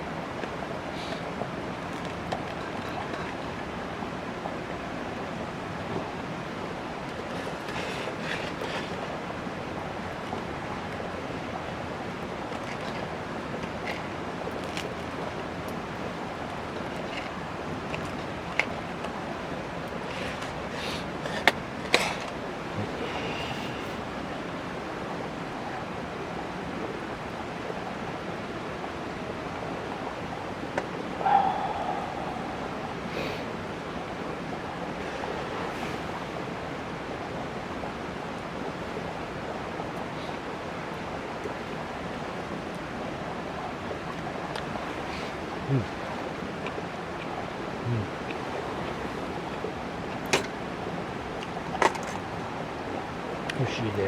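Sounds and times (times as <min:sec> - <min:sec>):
rushing outdoor noise: 0:10.6 - 0:54.0.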